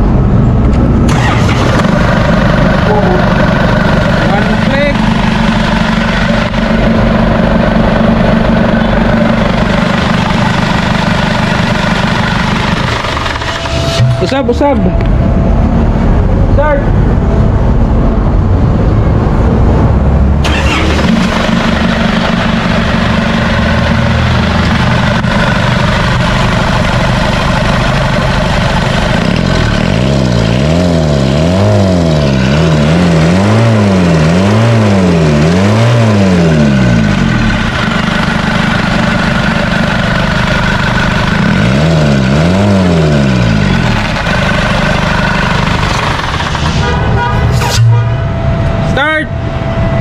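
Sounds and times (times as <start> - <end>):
diesel engine idling and revving: 0.0 - 50.0.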